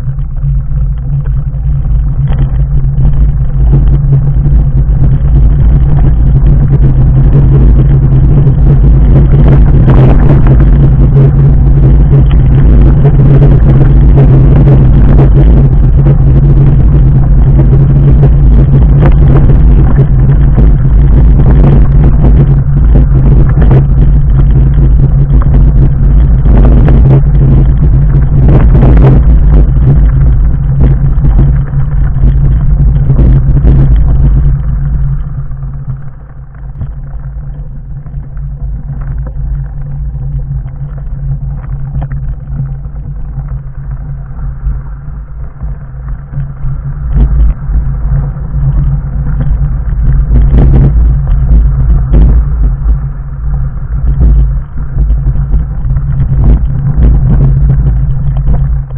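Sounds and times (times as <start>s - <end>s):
bike tyres rumbling over stones: 0.0s - 58.9s.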